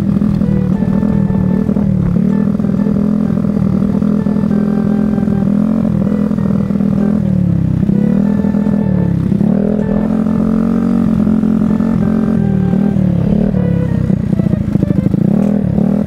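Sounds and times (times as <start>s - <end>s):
scooter engine running hard: 0.0s - 16.0s.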